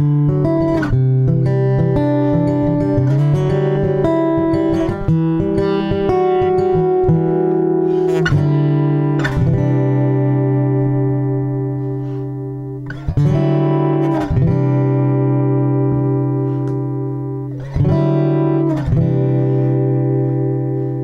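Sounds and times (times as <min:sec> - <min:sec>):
guitar chords strummed: 0:00.0 - 0:21.0.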